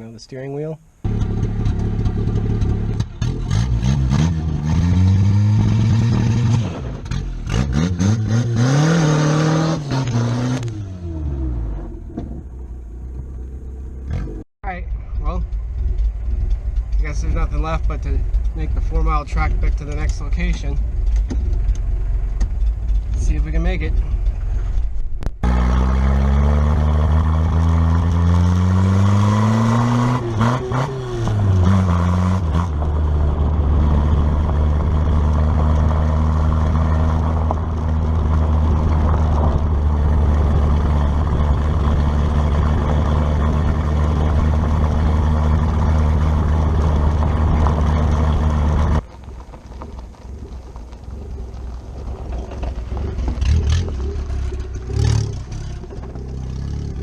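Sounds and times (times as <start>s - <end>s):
car engine pulling away under load: 1.0s - 57.0s.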